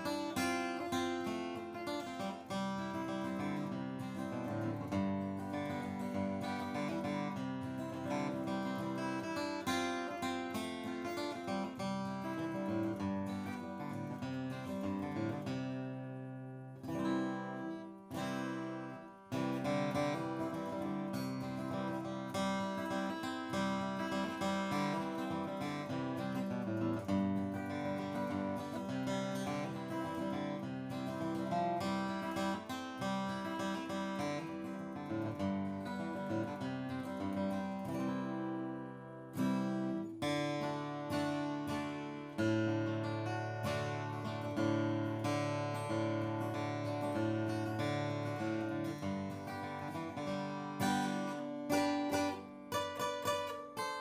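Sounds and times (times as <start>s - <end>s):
acoustic guitar played with pick: 0.0s - 54.0s.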